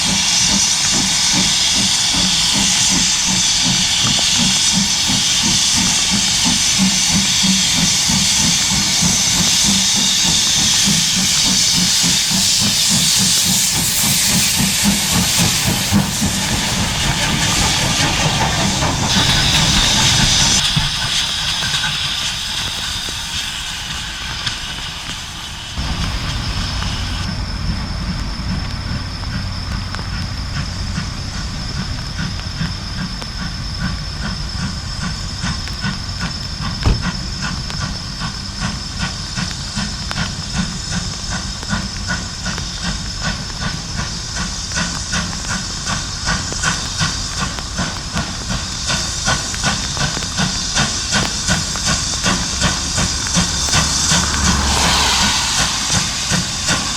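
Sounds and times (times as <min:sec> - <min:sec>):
steam locomotive hiss: 0:00.0 - 0:56.9.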